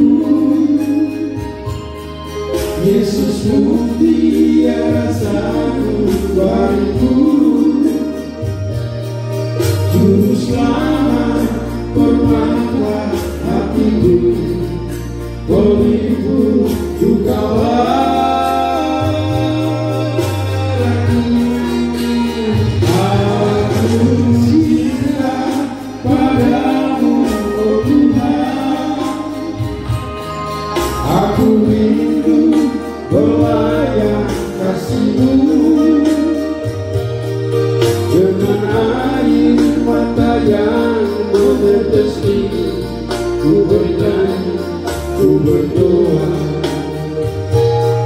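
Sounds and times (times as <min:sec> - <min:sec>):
man singing into microphone: 0:00.0 - 0:08.9, 0:09.6 - 0:48.0
instrumental accompaniment with bass: 0:00.0 - 0:48.0.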